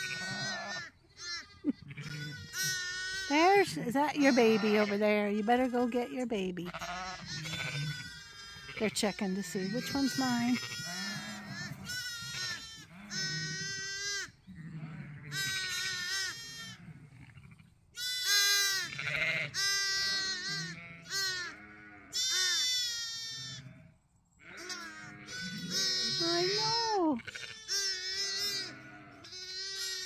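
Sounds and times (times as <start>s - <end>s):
lambs bleating: 0.0s - 30.0s.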